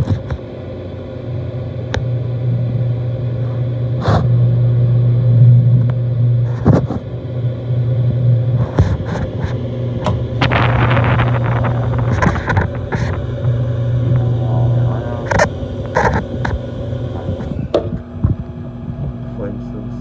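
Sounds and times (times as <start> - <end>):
gas furnace rumbling: 0.0 - 20.0.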